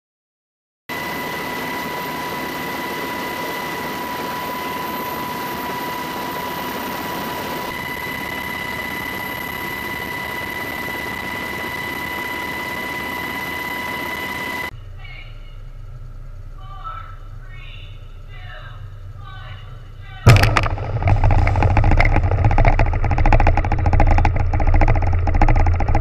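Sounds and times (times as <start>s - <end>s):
aircraft engine whine: 0.9s - 26.0s.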